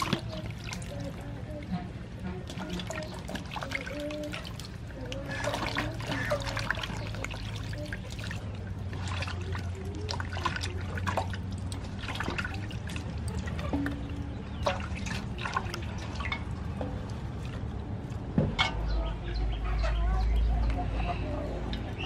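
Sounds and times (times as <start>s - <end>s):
water splashing in metal basin: 0.0s - 18.8s.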